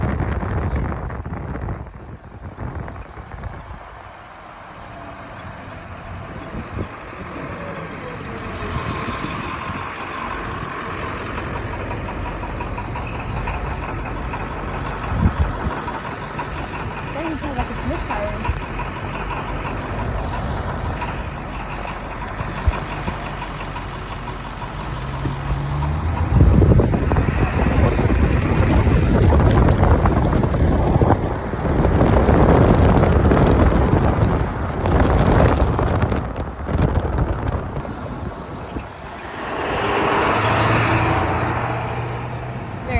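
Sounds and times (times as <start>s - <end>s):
diesel engine running unevenly: 0.1s - 42.9s.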